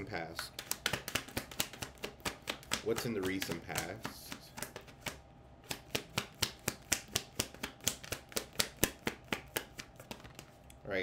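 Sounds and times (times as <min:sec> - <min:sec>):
cards being shuffled: 0:00.5 - 0:10.8.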